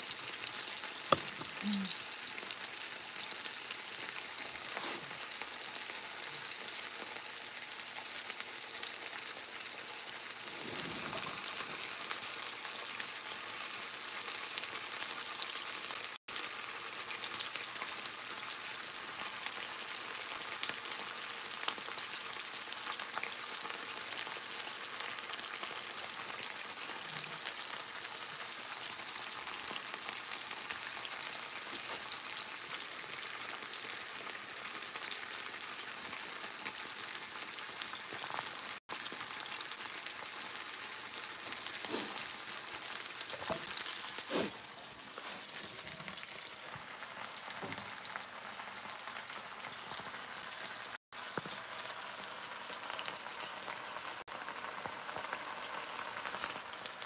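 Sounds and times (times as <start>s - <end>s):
meat sizzling in a pan: 0.0s - 57.0s.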